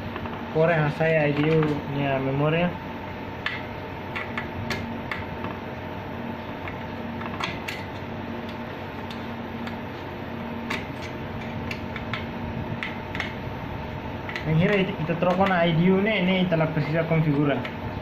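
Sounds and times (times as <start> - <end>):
electronic equipment fan hum: 0.0 - 18.0.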